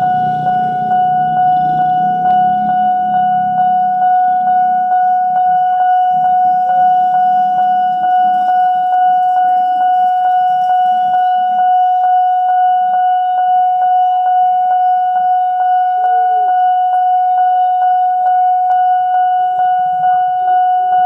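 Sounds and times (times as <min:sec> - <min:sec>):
pulsing level crossing siren: 0:00.0 - 0:21.0.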